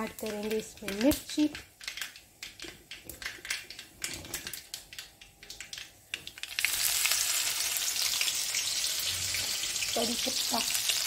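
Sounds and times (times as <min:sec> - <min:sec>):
oil sizzling: 0:00.0 - 0:11.0
seeds crackling in hot oil: 0:00.0 - 0:11.0.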